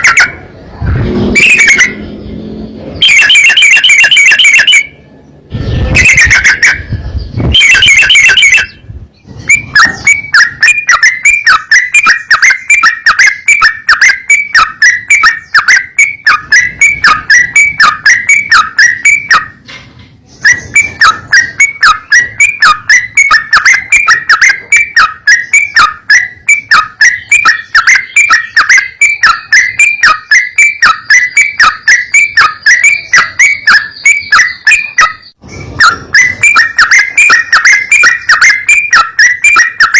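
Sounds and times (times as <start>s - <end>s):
bird whistling call: 1.0s - 2.0s, 5.6s - 19.6s, 20.3s - 39.9s.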